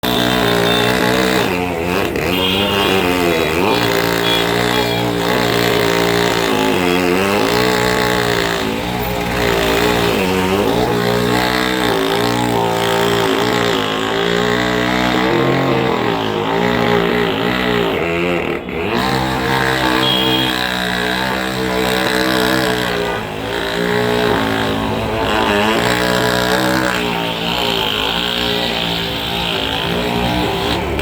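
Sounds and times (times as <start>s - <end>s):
engine running under varying load: 0.0s - 31.0s.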